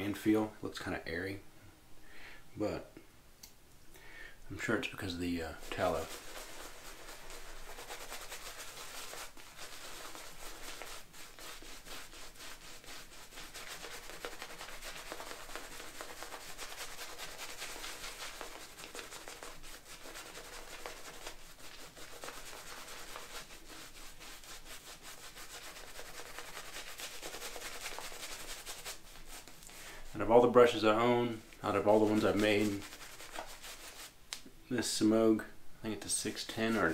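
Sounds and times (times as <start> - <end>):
shaving brush swishing on soap: 4.6 - 34.2, 36.1 - 36.9.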